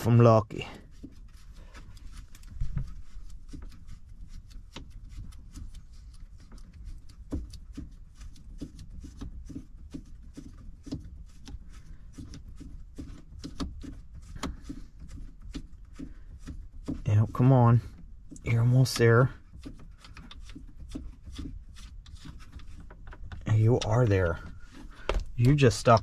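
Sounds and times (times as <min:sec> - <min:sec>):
hoses rubbing: 0:00.0 - 0:26.0.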